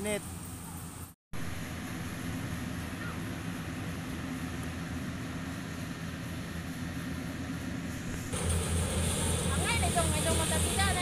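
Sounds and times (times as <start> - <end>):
harvester engine droning: 1.4 - 11.0.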